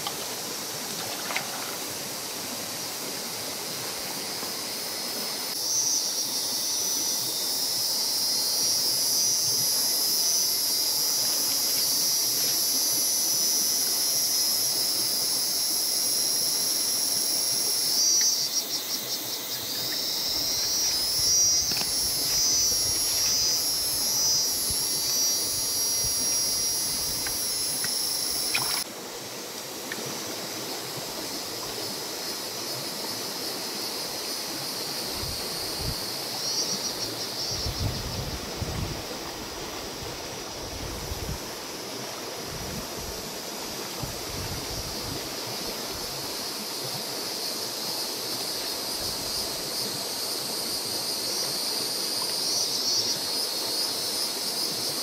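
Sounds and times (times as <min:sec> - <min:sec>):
cicadas droning: 0:00.0 - 0:55.0
low steady hiss: 0:00.0 - 0:55.0.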